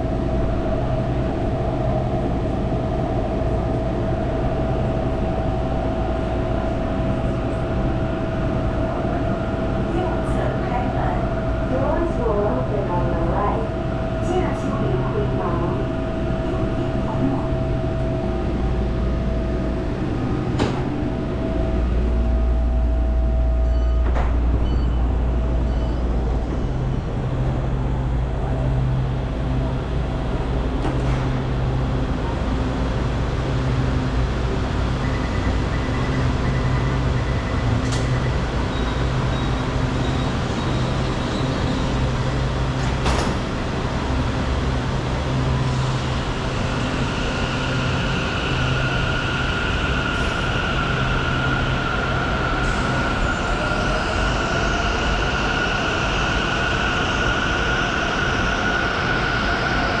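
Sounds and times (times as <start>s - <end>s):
train low hum: 0.0s - 60.0s.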